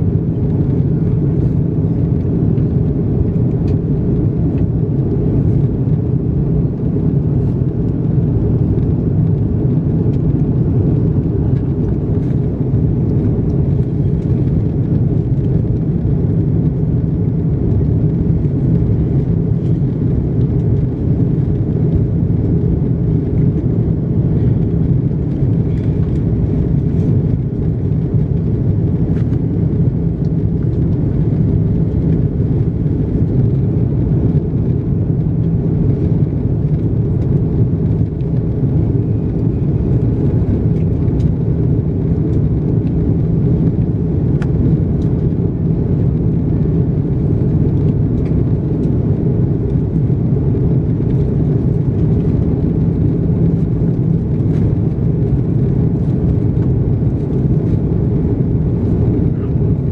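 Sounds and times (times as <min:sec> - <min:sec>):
airliner engine rumble: 0:00.0 - 0:59.9.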